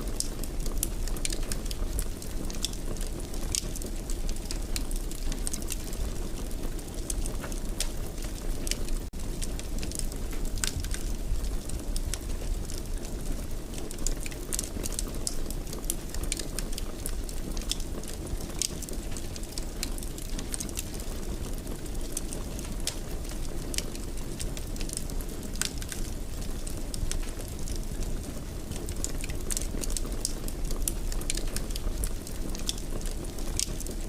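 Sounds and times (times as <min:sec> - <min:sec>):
burning wood crackling and popping: 0:00.0 - 0:34.0
low rumble of flames: 0:00.0 - 0:34.0.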